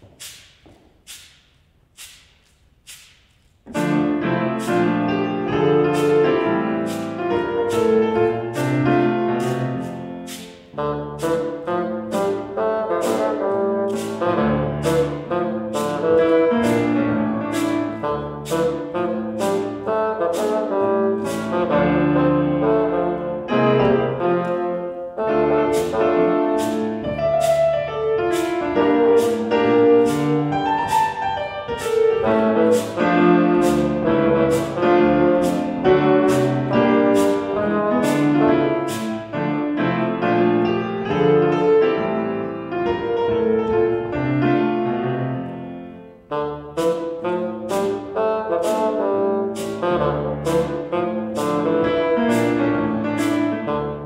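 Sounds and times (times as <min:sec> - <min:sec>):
cabasa scraping a beat: 0:00.0 - 0:23.2, 0:25.4 - 0:40.4, 0:46.7 - 0:54.0
piano accompaniment: 0:00.0 - 0:54.0
bassoon playing jazzy melody: 0:03.7 - 0:54.0.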